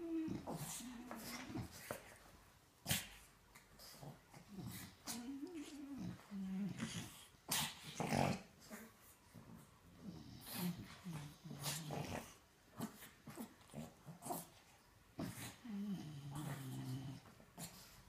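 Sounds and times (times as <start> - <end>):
dog play-growling and grunting: 0.0 - 2.2, 2.8 - 18.0.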